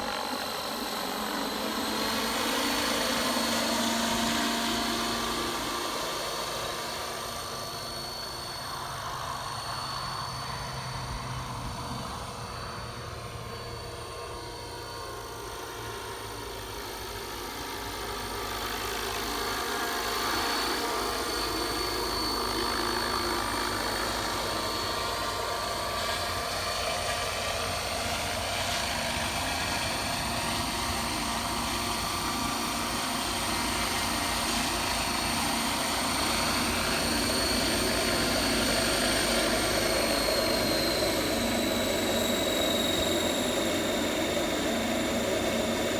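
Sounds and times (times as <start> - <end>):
model helicopter whining: 0.0 - 45.9.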